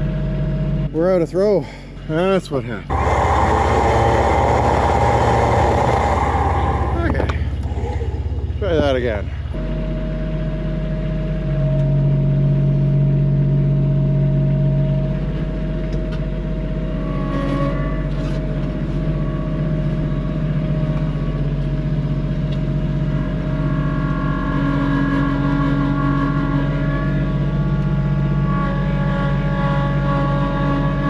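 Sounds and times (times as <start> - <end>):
engine running under load: 2.7 - 31.0
high whine: 2.9 - 31.0.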